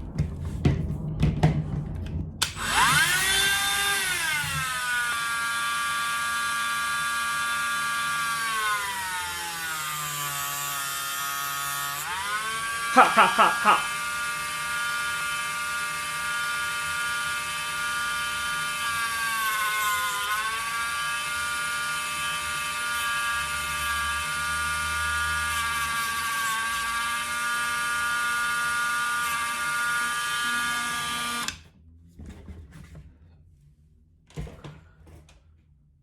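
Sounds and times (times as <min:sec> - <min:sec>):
electric tool motor whining: 0:02.4 - 0:31.6.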